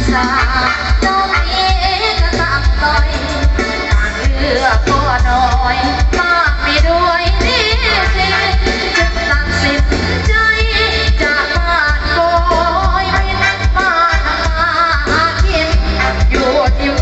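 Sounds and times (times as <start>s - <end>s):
song with heavy bass beat: 0.0s - 17.0s.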